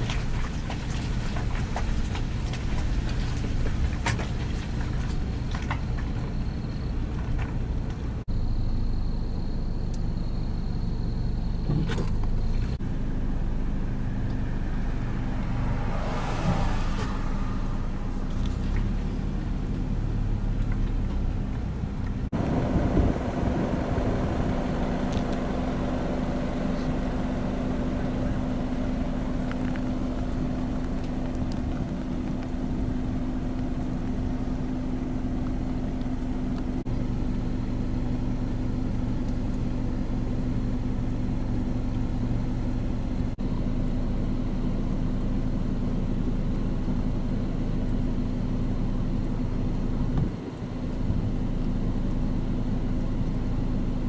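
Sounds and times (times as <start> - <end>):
droning hum: 0.0 - 54.0
vehicle engines idling: 0.0 - 54.0.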